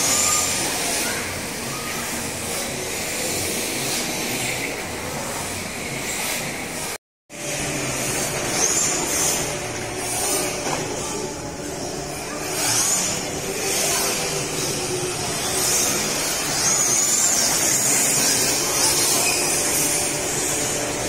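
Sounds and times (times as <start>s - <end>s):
electric motors whining: 0.0s - 21.0s
steady background din: 0.0s - 21.0s.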